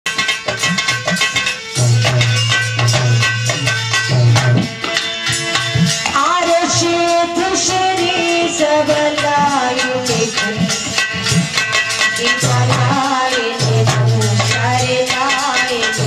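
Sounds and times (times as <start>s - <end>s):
harmonium melody: 0.1s - 16.0s
shaken rattle percussion: 0.1s - 16.0s.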